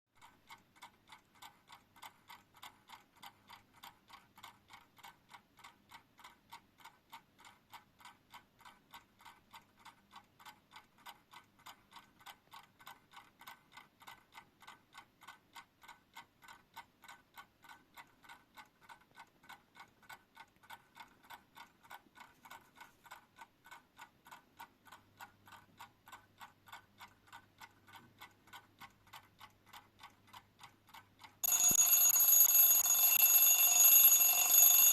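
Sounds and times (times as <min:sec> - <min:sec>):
alarm clock ticking: 0:00.2 - 0:34.9.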